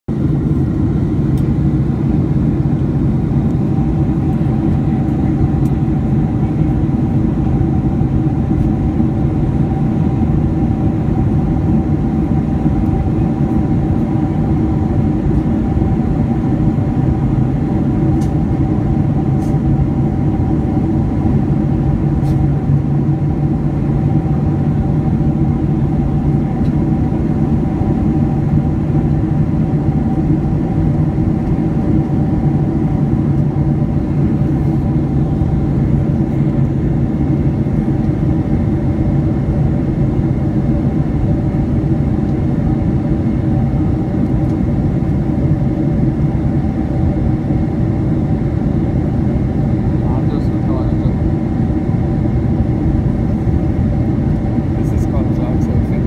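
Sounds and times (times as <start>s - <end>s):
low engine hum: 0.1s - 56.0s
loud rush of airflow: 0.2s - 56.0s.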